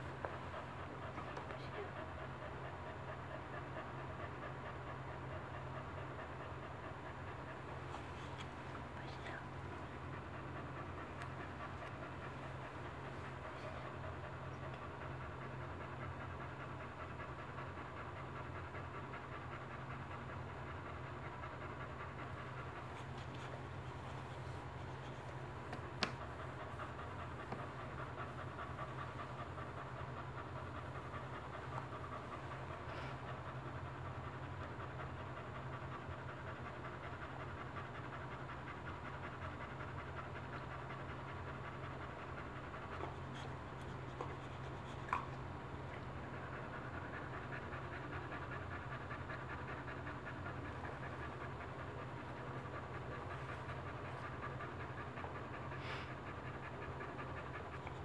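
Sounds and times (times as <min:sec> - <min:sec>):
dog panting rapidly: 0:00.0 - 0:58.0.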